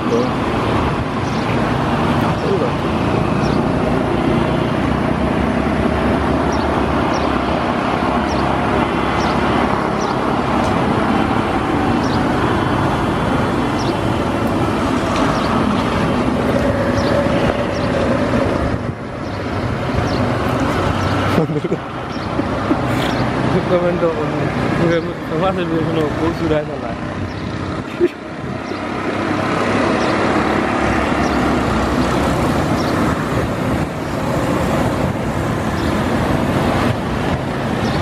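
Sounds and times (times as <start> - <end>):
turboprop engines droning: 0.0 - 38.0.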